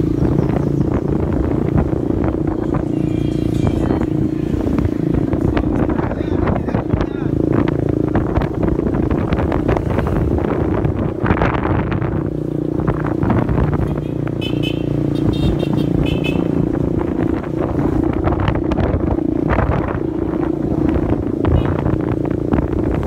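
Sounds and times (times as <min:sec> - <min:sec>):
wind rushing over microphone: 0:00.0 - 0:14.4, 0:15.2 - 0:23.0
motorcycle engine running: 0:00.0 - 0:23.0.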